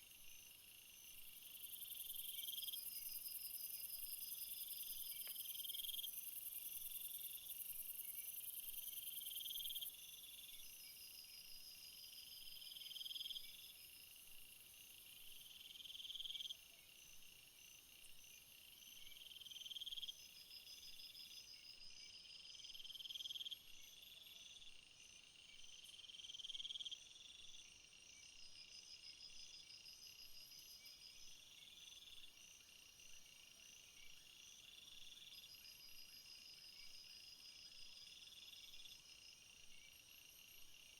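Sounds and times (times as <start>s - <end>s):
repeated insect call: 0.0s - 40.9s.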